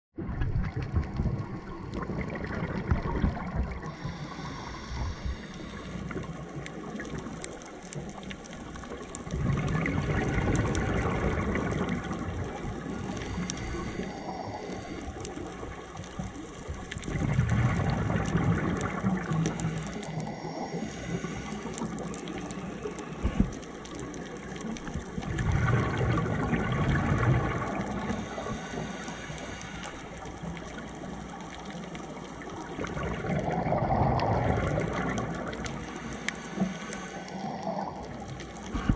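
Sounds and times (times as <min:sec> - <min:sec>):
air bubbles from regulator: 0:00.2 - 0:38.9
underwater background: 0:00.2 - 0:38.9.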